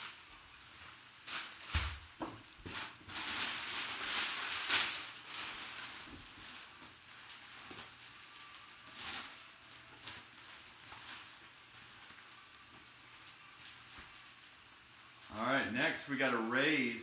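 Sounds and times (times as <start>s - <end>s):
packaging rustling and crinkling: 0.0s - 15.4s.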